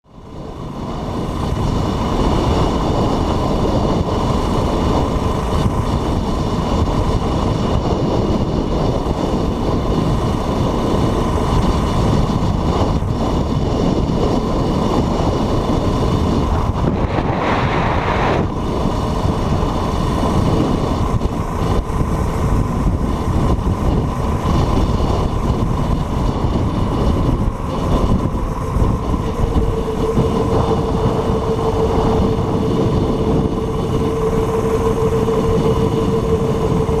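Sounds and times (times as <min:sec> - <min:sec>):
train wheels rumbling on track: 0:00.1 - 0:37.0.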